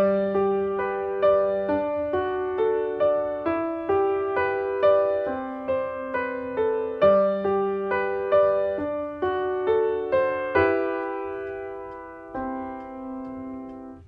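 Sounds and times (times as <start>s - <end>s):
electric piano music: 0.0s - 14.0s.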